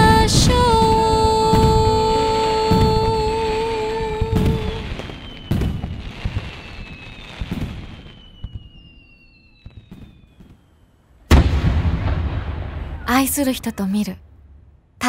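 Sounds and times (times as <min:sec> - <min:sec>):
fireworks crackle: 0:00.0 - 0:13.5
fireworks bangs: 0:00.0 - 0:14.7.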